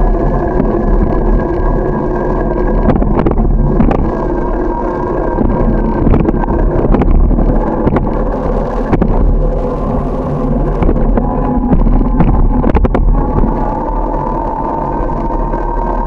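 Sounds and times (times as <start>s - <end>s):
bicycle road rumble: 0.0s - 16.0s
bike rattling over bumps: 0.0s - 16.0s
wind buffeting microphone: 0.0s - 16.0s.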